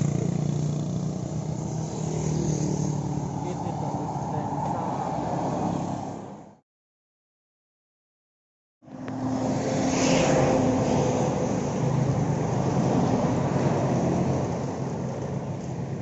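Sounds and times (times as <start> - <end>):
cars and motorcycles passing: 0.0 - 6.6, 8.8 - 16.0.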